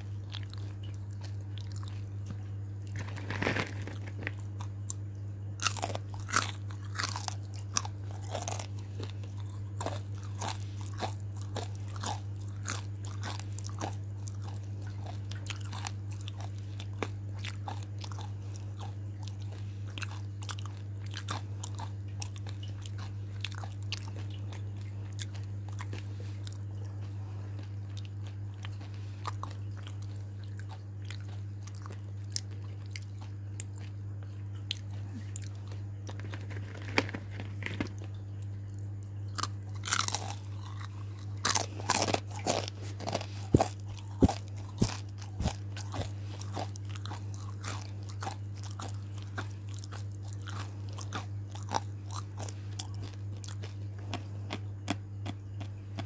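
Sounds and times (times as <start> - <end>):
crunchy chewing of fried food: 0.0 - 56.0
low electrical hum: 0.0 - 56.0.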